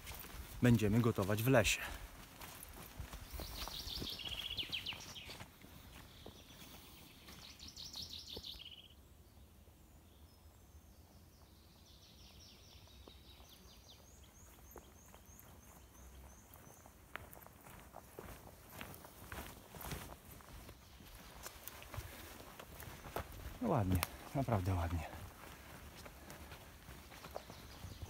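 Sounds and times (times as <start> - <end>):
songbirds trilling: 0.1 - 28.0.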